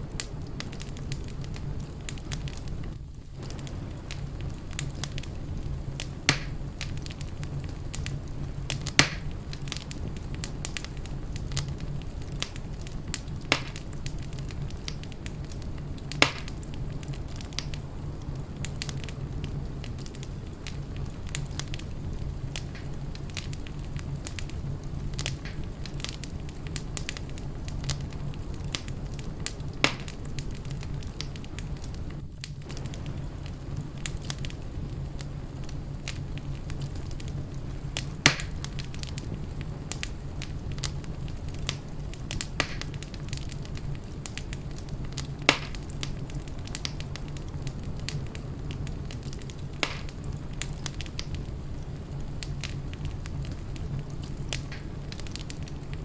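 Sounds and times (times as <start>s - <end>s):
wood fire crackling: 0.0s - 56.0s
sharp pops of fire: 0.1s - 56.0s.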